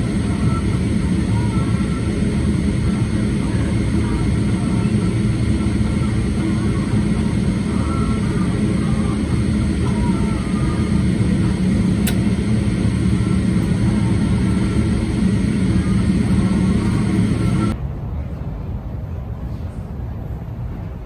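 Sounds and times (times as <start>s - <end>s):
aircraft cabin drone: 0.0s - 21.0s.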